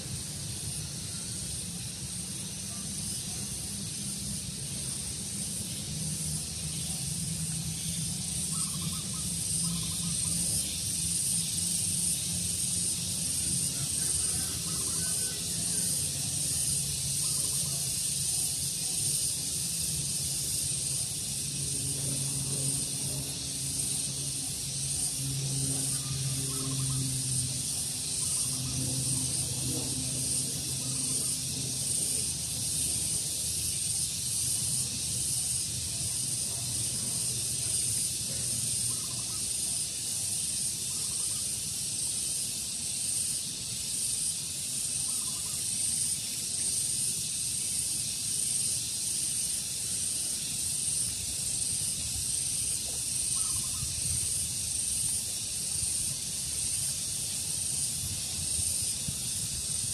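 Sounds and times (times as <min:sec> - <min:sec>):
high-pitched outdoor hiss: 0:00.0 - 0:59.9.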